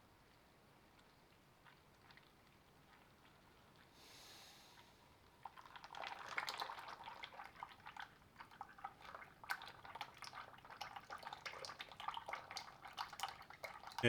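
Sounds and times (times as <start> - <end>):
oil dripping and splashing into pan: 0.2 - 3.9, 5.2 - 14.0.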